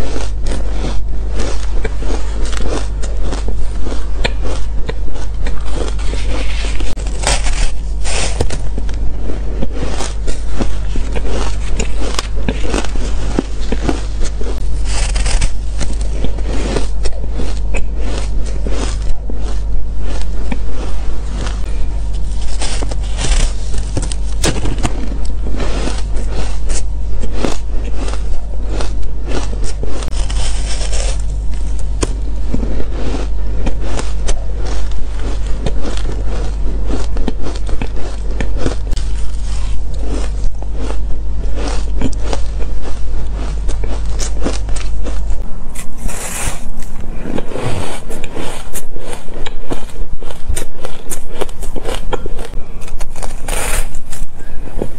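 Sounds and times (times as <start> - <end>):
chewing shaved ice crunches: 0.0 - 54.9
low steady hum: 0.0 - 54.9.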